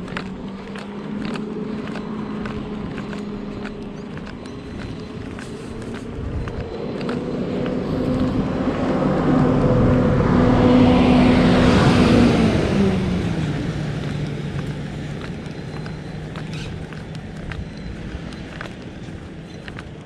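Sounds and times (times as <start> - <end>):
truck driving past: 0.0 - 20.0.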